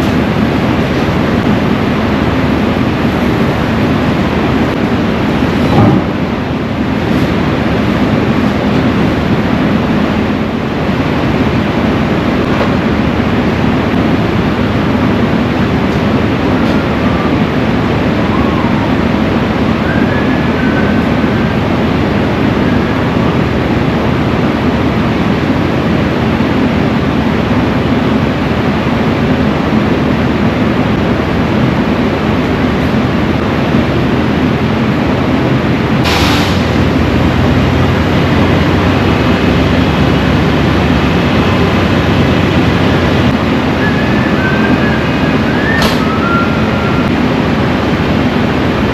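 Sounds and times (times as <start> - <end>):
rushing noise: 0.0 - 48.9
vehicle engine rumble: 0.0 - 48.9.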